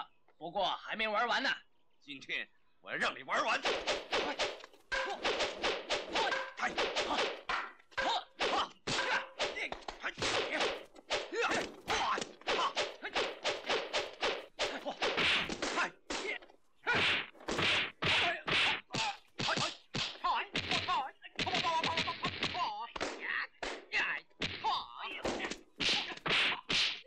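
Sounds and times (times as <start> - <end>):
punch and staff-strike whacks: 3.5 - 27.0.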